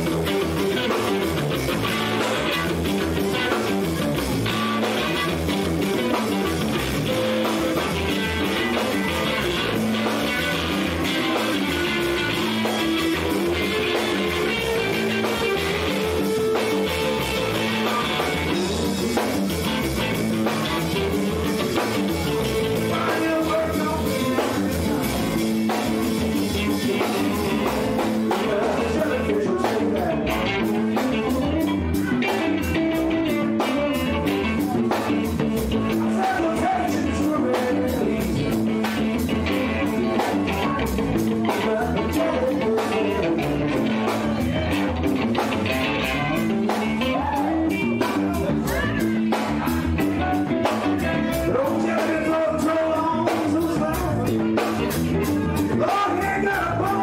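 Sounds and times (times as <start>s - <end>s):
bass guitar: 0.0s - 57.0s
drum kit: 0.0s - 57.0s
electric guitar lead: 0.0s - 57.0s.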